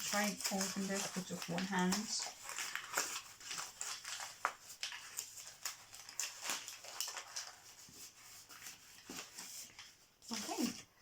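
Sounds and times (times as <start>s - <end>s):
wrapping crinkling and tearing: 0.0s - 10.8s.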